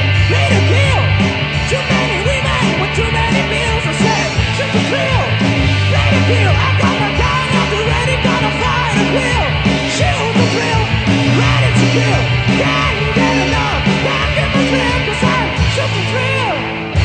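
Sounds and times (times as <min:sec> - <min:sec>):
lead vocalist singing: 0:00.0 - 0:17.0
rock band playing: 0:00.0 - 0:17.0.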